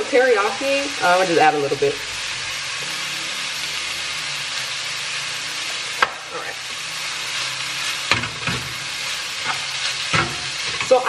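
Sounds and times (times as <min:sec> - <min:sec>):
chicken pieces sizzling in a pan: 0:00.0 - 0:11.0.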